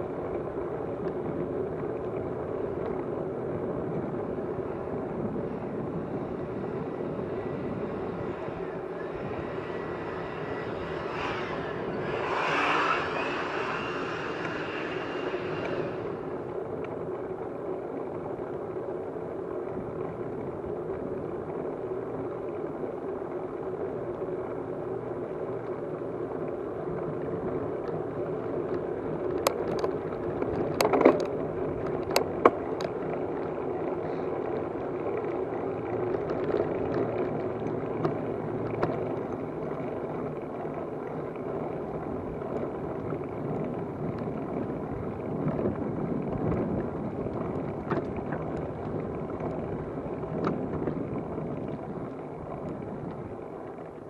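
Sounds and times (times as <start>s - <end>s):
moving vehicle rumble: 0.0s - 54.0s.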